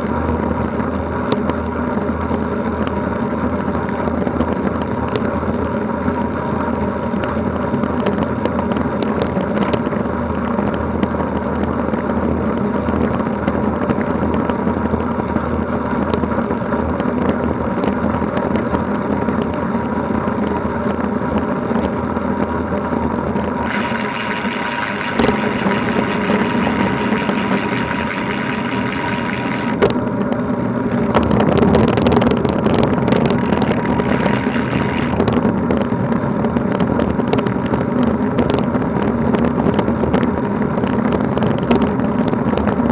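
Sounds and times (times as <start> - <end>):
bike tyre rushing on tarmac: 0.0 - 42.9
wind: 0.0 - 42.9.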